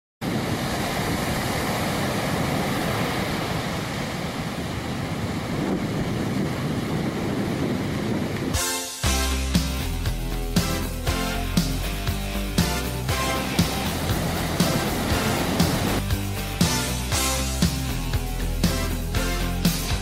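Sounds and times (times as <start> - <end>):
ocean waves crashing: 0.2 - 20.0.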